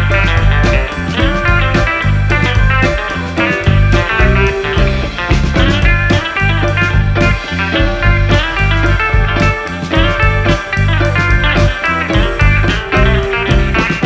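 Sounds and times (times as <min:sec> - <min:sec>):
guitar-led background music: 0:00.0 - 0:14.0.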